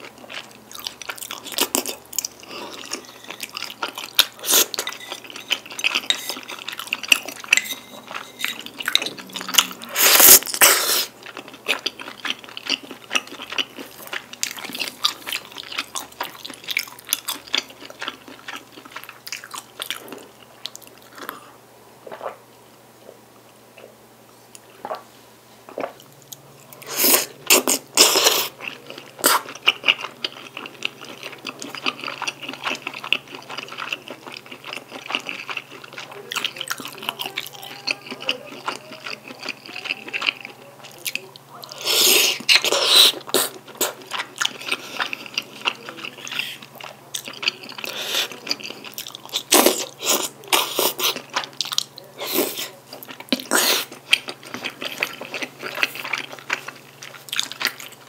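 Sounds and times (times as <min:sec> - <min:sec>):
close chewing and biting: 0:00.0 - 0:21.4, 0:26.7 - 0:58.0.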